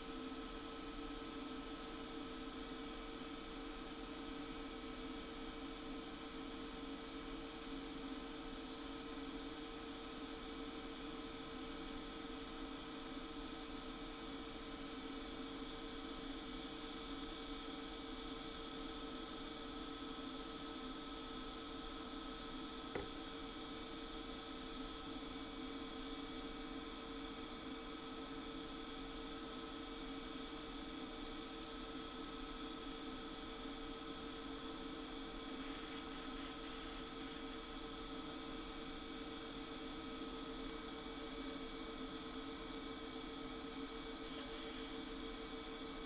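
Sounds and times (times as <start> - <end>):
welding arc humming and hissing: 0.0 - 46.0.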